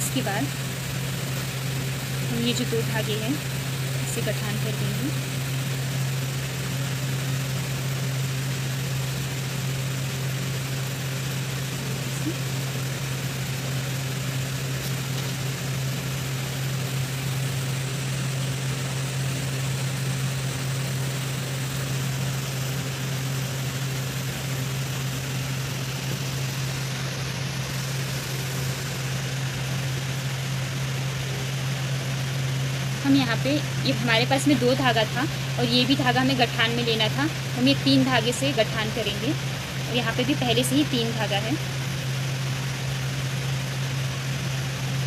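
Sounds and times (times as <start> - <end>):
constant hiss: 0.0 - 45.0
low machine hum: 0.0 - 45.0.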